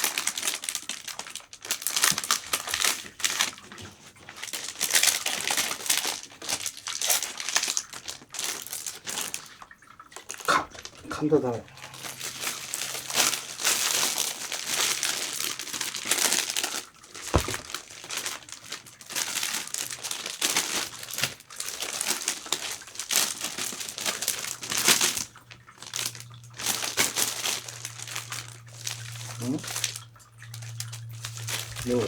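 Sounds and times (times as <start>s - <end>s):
crinkly wrapping rustling: 0.0s - 32.0s.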